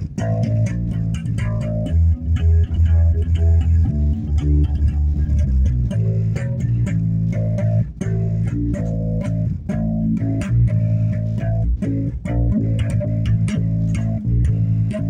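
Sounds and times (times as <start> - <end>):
plucked bass guitar: 0.0 - 15.0.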